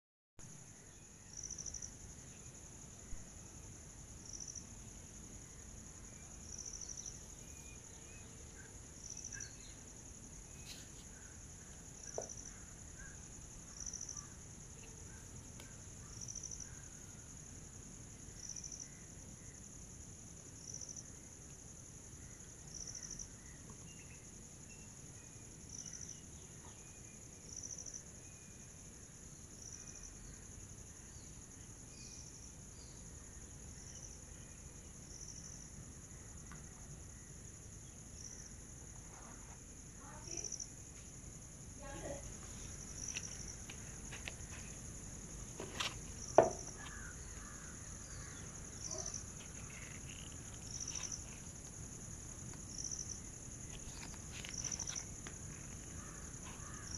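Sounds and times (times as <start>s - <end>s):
insects trilling: 0.5s - 56.9s.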